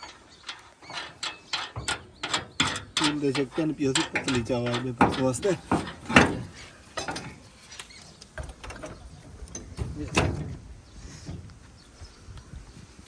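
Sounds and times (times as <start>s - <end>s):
metallic clicks and knocks on machinery: 0.0s - 10.6s.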